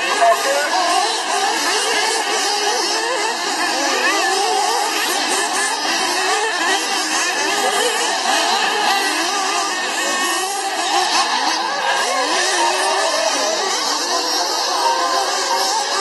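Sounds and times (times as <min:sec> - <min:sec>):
rc car engines whining: 0:00.0 - 0:16.0.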